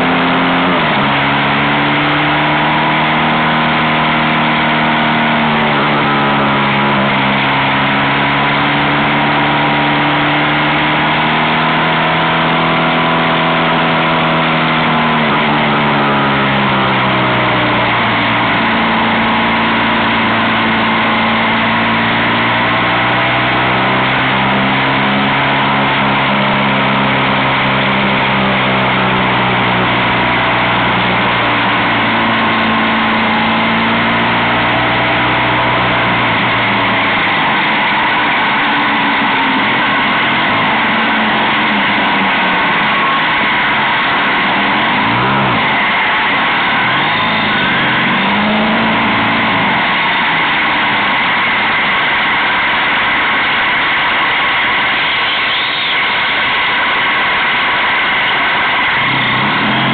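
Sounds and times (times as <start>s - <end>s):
motorcycle engine running: 0.0s - 54.4s, 58.6s - 59.9s.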